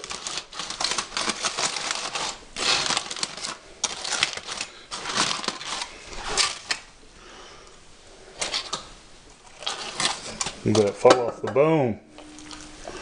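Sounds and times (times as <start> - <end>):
aluminum foil crinkling: 0.0 - 7.0, 8.3 - 11.1, 12.2 - 13.0.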